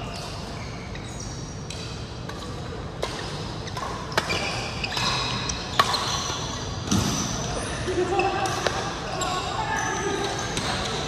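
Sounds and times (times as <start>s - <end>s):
shoes squeaking on court floor: 0.0s - 11.0s.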